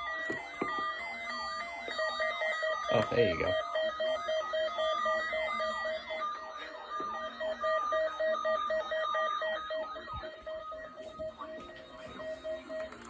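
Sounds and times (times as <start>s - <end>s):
falling siren-like sweeps: 0.0s - 12.9s
pulsing alarm beep: 0.0s - 13.0s.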